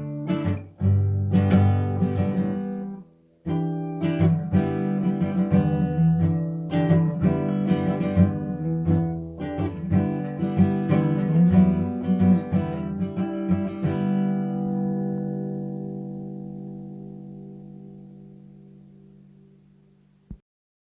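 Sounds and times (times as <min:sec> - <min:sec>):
guitar picked and strummed: 0:00.0 - 0:20.4.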